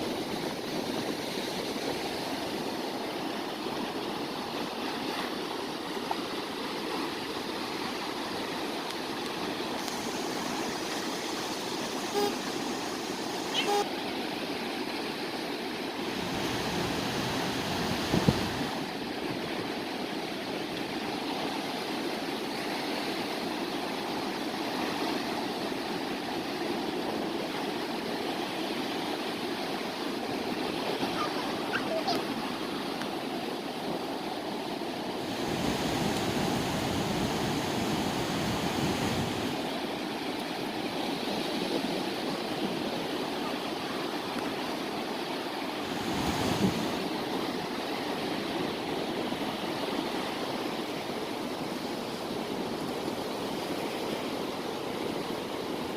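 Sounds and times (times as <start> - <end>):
sea waves washing on shore: 0.0 - 55.9.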